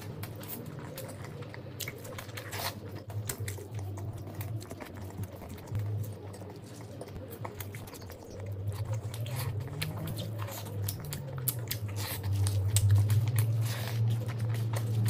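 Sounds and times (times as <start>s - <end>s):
chewing and mouth smacking: 0.0s - 15.0s
low hum: 0.0s - 15.0s.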